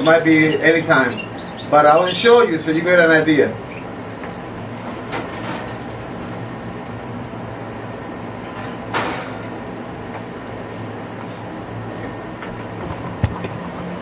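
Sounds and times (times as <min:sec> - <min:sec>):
fan humming: 0:00.0 - 0:14.0.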